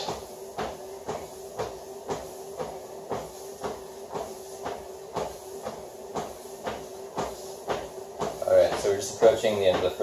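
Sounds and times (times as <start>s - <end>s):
footsteps on treadmill belt: 0.0s - 10.0s
treadmill motor hum: 0.0s - 10.0s.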